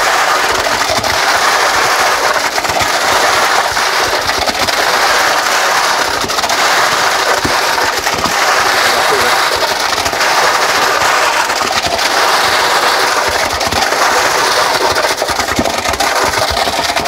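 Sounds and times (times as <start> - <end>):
wet concrete splattering from hose: 0.0 - 17.0.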